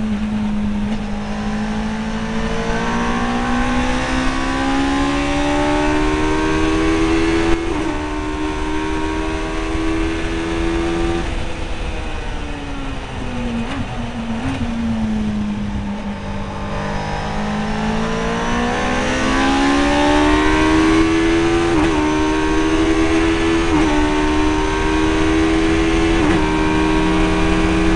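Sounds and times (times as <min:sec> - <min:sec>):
car engine revving under load: 0:00.0 - 0:12.0, 0:13.6 - 0:27.9.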